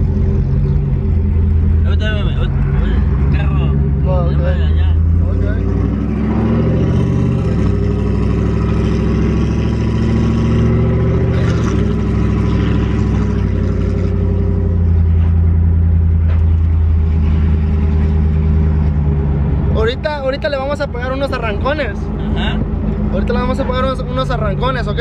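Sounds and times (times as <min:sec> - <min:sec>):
truck engine and exhaust running: 0:00.0 - 0:25.0.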